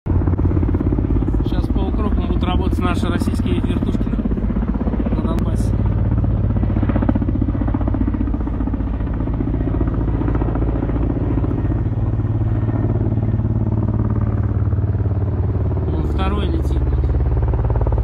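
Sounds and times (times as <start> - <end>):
helicopter engine hum: 0.1 - 18.0
helicopter rotors beating: 0.1 - 18.0.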